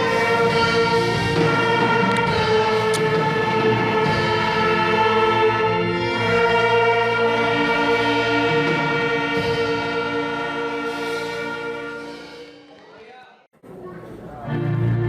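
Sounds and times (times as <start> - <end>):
orchestra playing slow held chords: 0.0 - 12.8.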